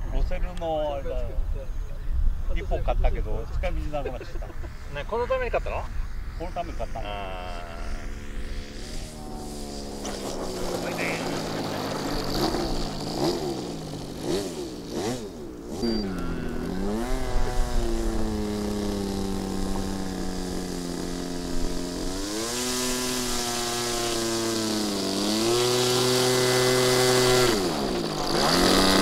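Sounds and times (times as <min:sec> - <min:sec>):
model airplane engine and propeller: 0:04.1 - 0:29.0.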